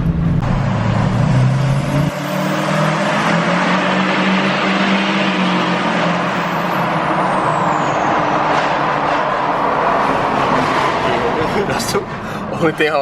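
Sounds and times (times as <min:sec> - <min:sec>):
road noise: 0:00.0 - 0:13.0
truck engine: 0:00.0 - 0:13.0.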